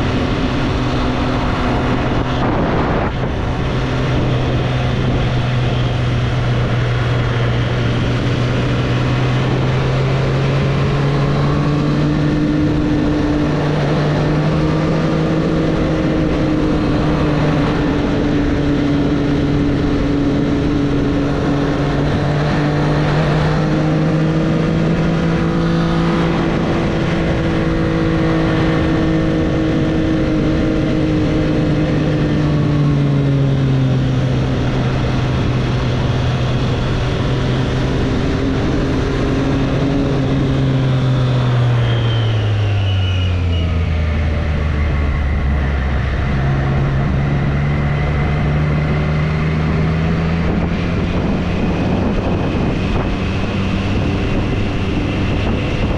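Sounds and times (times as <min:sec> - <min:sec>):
motorcycle engine running: 0:00.0 - 0:55.9
wind rush: 0:00.0 - 0:55.9.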